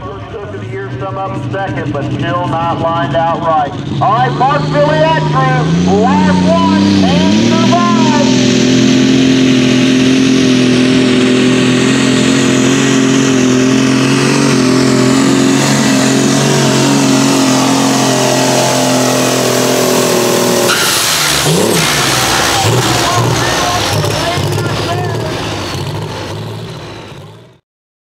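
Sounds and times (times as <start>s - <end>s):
tractor engine running flat out: 0.0s - 27.6s.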